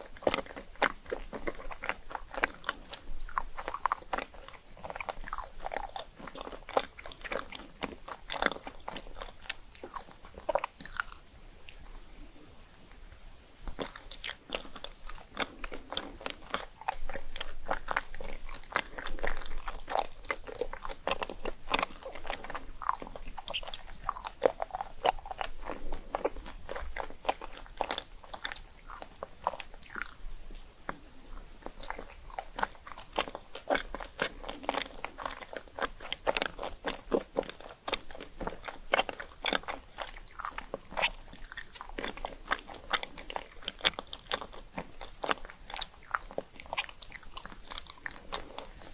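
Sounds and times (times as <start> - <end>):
person chewing crunchy food: 0.0 - 13.0, 13.6 - 48.9.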